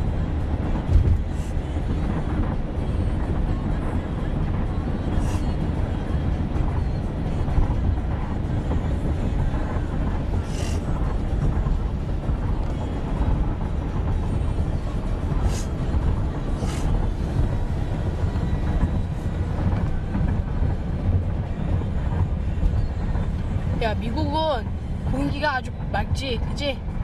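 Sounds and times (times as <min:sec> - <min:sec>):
car rumble from inside cabin: 0:00.0 - 0:27.0.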